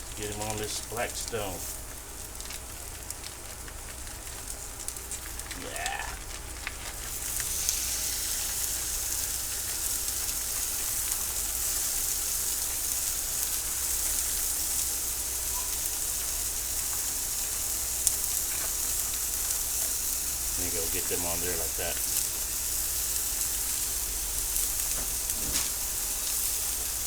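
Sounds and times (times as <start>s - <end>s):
food sizzling on griddle: 0.0s - 27.0s.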